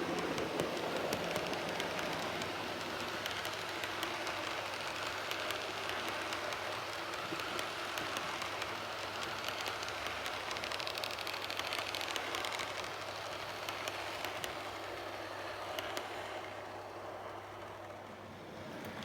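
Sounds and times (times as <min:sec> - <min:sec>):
small irregular clicks: 0:00.0 - 0:18.1
model train rolling on track: 0:00.0 - 0:19.0.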